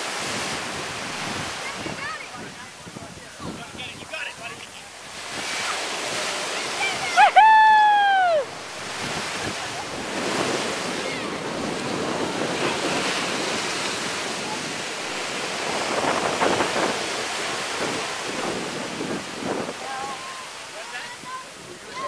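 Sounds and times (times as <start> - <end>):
ocean waves breaking on beach: 0.0 - 22.0.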